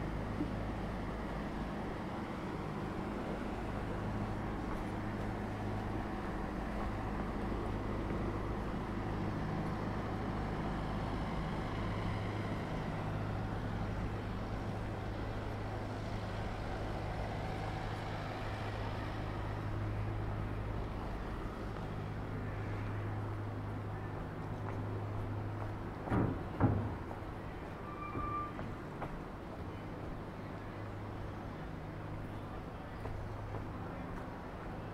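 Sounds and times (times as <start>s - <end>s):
boat engine droning: 0.0s - 34.9s.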